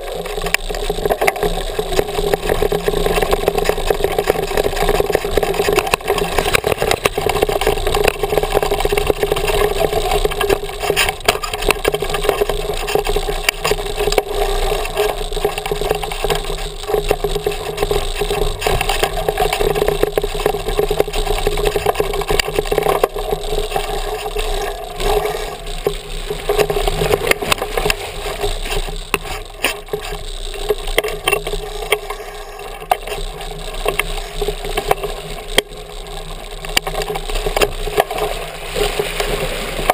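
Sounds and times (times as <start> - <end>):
bike rattling over rocks: 0.0 - 39.9
tyre noise: 0.0 - 39.9.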